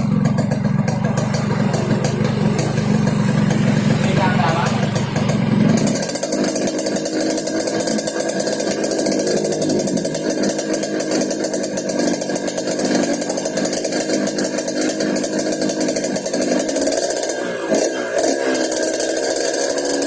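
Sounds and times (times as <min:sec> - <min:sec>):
two-stroke motorcycle engine growling: 0:00.0 - 0:20.0.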